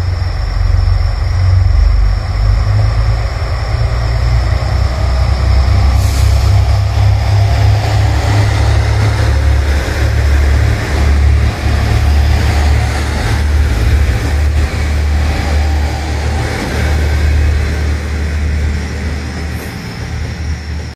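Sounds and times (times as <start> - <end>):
diesel railcar engine drone: 0.0 - 20.9
train wheel and running noise: 0.0 - 20.9.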